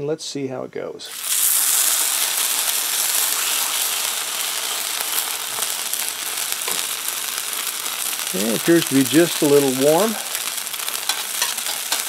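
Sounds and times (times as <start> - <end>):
batter sizzling in hot oil: 1.1 - 12.0.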